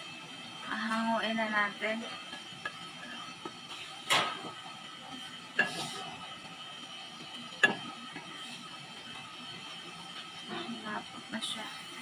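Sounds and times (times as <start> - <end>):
simmering hiss: 0.0 - 12.0.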